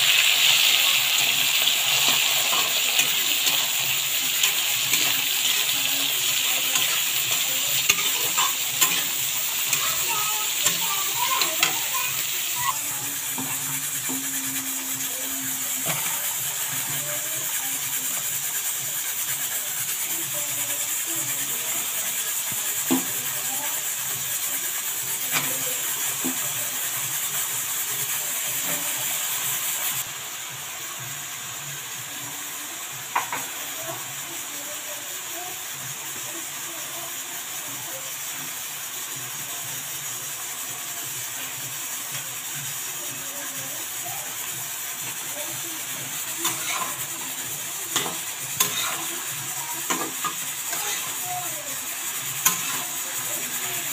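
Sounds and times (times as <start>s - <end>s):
food sizzling in a pan: 0.0s - 53.9s.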